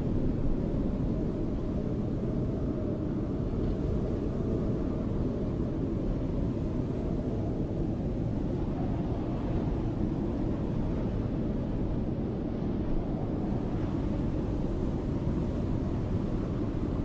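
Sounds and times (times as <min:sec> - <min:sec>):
rushing snowstorm wind: 0:00.0 - 0:17.0.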